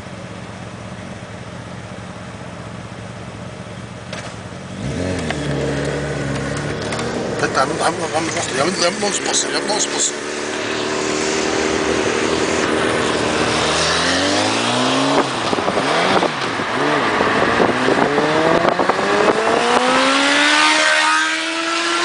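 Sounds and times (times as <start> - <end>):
motorcycle engine accelerating: 0.7 - 22.0
car engine accelerating: 4.0 - 22.0.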